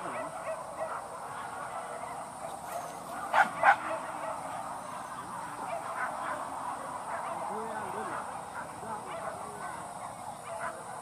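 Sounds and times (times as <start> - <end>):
dog barking: 0.0 - 4.7, 5.6 - 11.0.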